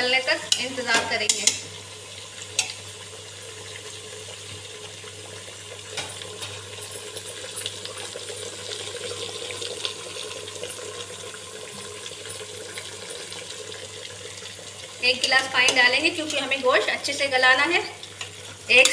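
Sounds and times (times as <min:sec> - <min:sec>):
meat sizzling in oil: 0:00.0 - 0:18.9.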